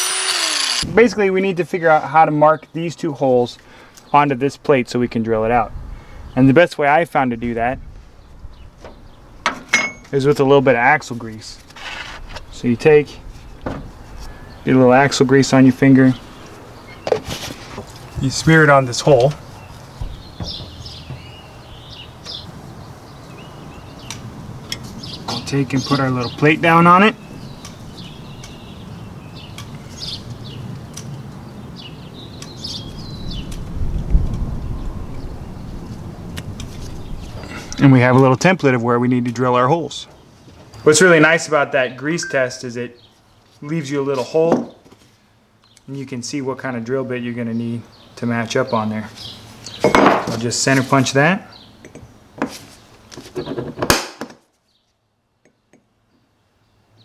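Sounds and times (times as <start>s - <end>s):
birds chirping: 0.0s - 33.6s, 34.6s - 53.7s.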